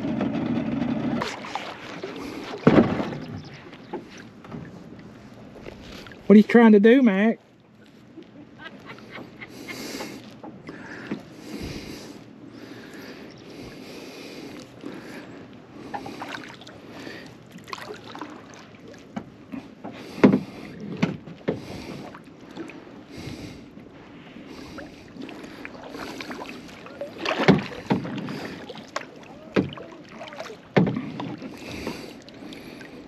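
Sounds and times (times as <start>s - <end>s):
paddle splashing in water: 0.0s - 6.3s, 7.6s - 33.0s.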